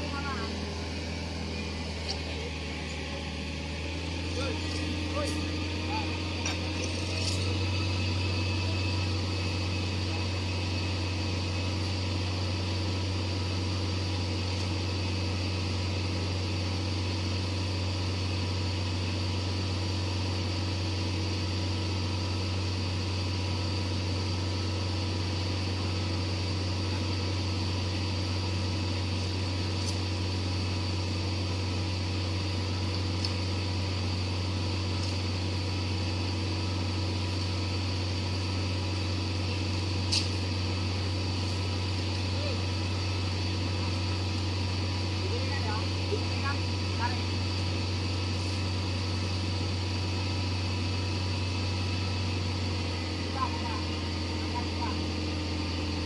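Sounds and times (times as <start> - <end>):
excavator engine droning: 0.0 - 56.0.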